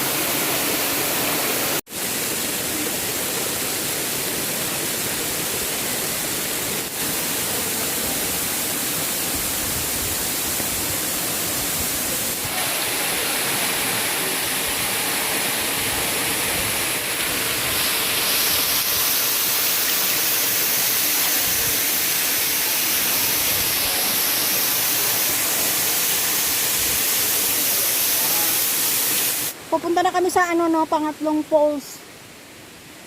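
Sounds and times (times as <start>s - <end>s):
waterfall rushing: 0.0s - 31.6s.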